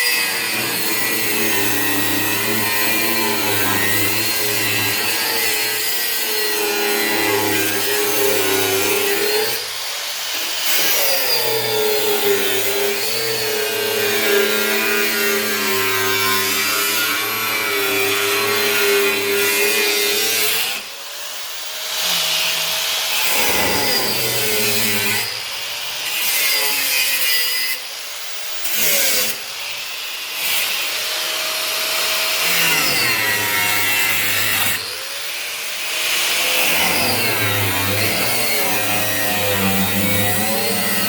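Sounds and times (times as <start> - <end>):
power tool cutting sheet steel: 0.0 - 41.0.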